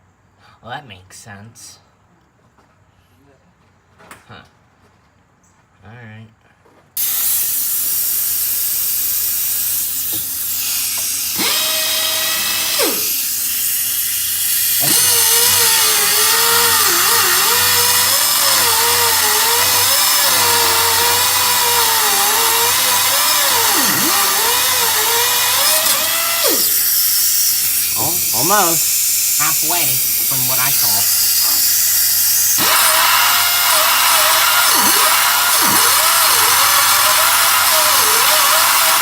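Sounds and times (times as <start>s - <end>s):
air hissing: 7.0s - 39.0s
pneumatic cut-off tool whining: 7.0s - 39.0s.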